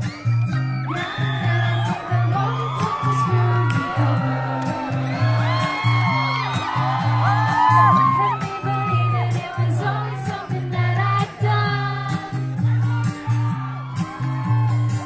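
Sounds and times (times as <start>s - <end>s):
live band with singing: 0.0s - 15.0s.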